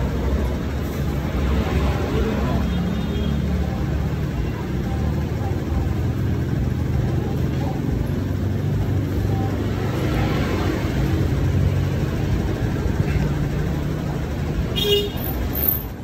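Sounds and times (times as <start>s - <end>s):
road traffic rumble: 0.0s - 16.0s
vehicle engine running close by: 0.0s - 16.0s.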